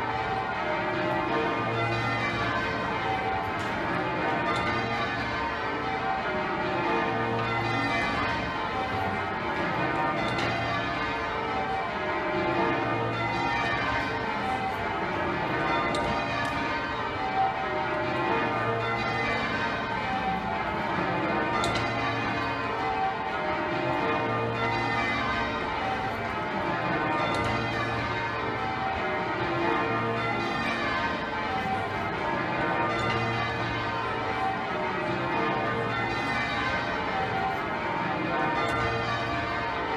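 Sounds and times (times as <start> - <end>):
church bells change ringing: 0.0 - 39.9
deep tenor bell: 0.0 - 39.9.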